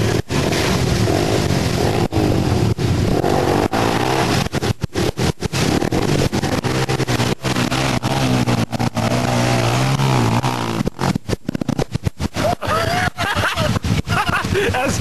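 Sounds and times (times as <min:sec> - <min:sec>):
driving through shallow water: 0:00.0 - 0:15.0
quad engine revving: 0:00.0 - 0:15.0.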